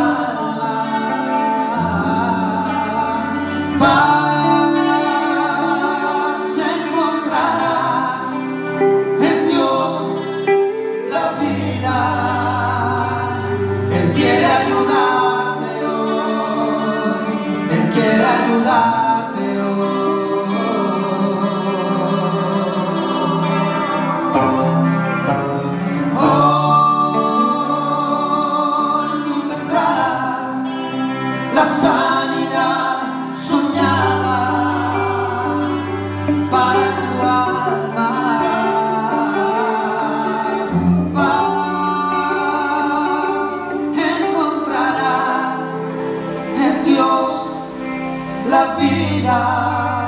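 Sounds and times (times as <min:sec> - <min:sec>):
live rock band playing: 0:00.0 - 0:50.0.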